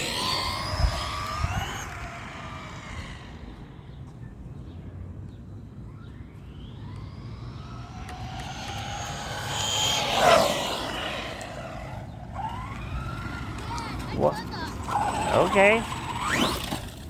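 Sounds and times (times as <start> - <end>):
electric motor whine: 0.0 - 4.2, 5.8 - 17.0.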